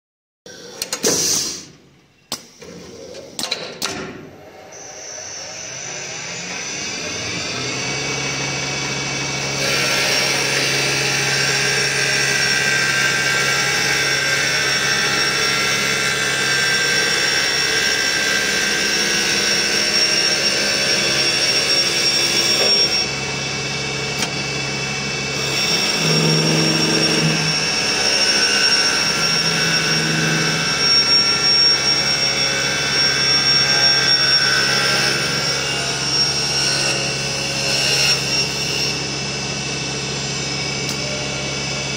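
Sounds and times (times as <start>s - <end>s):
lathe motor whine: 4.3s - 41.9s.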